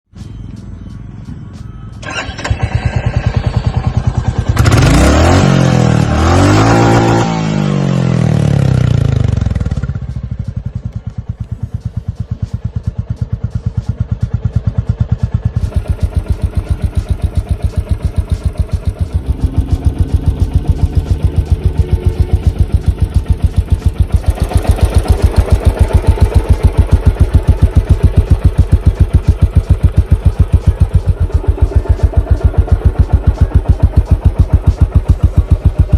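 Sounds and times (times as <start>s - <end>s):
motorcycle engine revving and idling: 0.2s - 35.9s.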